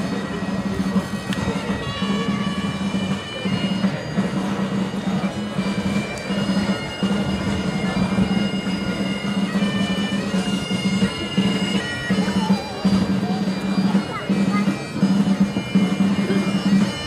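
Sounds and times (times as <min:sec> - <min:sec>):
bagpipes playing: 0:00.0 - 0:17.0.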